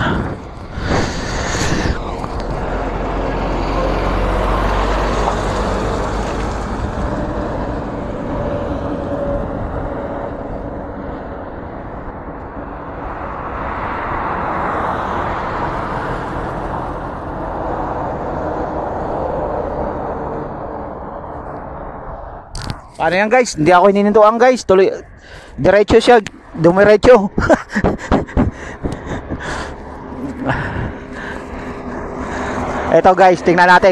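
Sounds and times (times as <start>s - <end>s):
truck passing: 0.0s - 22.5s, 26.4s - 33.9s
vehicle passing: 0.0s - 23.7s, 26.4s - 33.9s
tyres on road: 0.0s - 33.9s.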